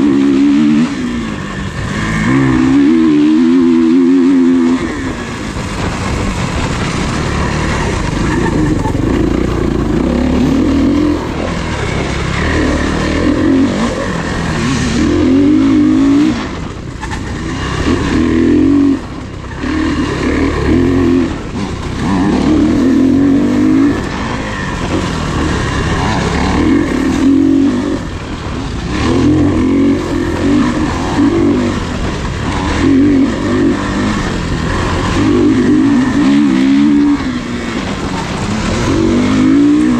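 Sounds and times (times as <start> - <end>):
racing engines revving: 0.0 - 39.9.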